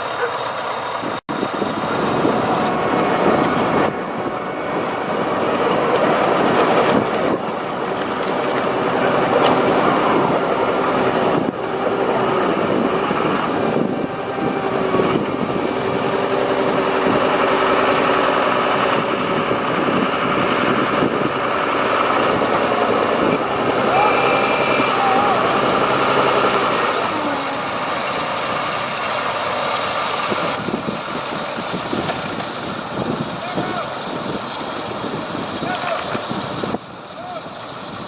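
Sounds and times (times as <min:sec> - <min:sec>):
heavy machinery diesel engines: 0:00.0 - 0:38.0.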